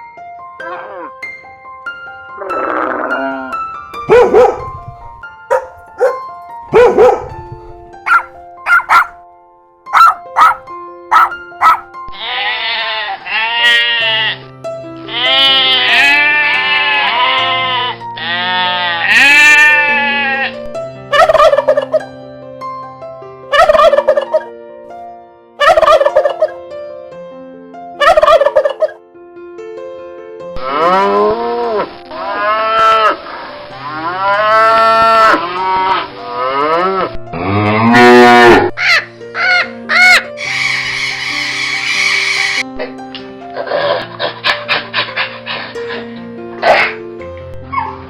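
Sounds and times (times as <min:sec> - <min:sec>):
background music with held notes: 0:00.0 - 0:48.0.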